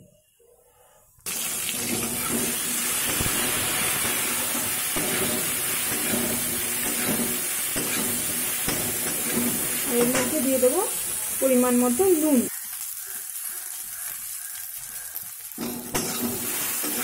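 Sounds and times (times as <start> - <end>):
fruit sizzling in hot oil: 1.2 - 17.0.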